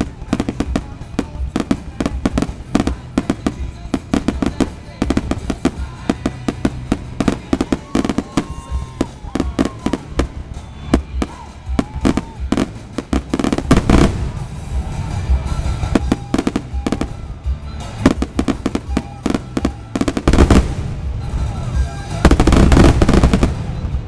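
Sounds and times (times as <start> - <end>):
fireworks bangs and crackle: 0.0 - 24.0.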